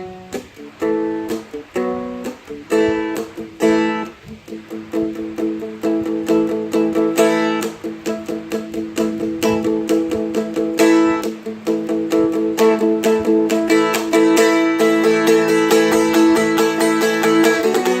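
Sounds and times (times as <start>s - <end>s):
strumstick picked notes: 0.0s - 18.0s.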